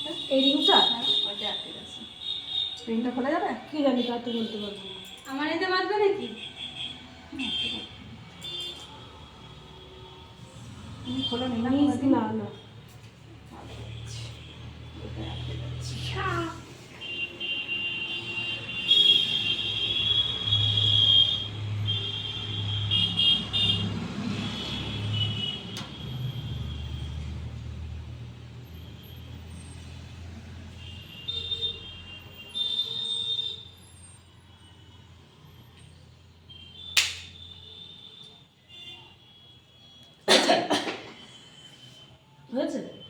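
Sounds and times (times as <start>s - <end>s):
vehicle horns: 0.0s - 3.0s, 6.2s - 27.4s, 30.7s - 35.4s, 36.5s - 43.0s.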